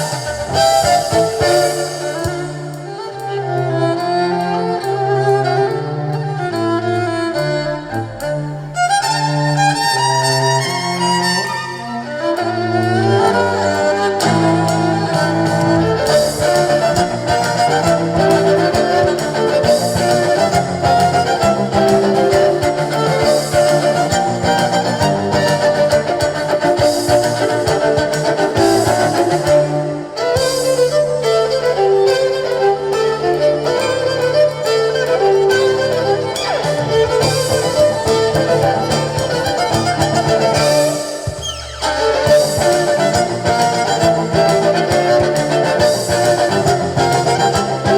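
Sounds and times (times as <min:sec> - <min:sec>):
live band playing instrumental music: 0:00.0 - 0:47.9
violin melody: 0:00.0 - 0:47.9.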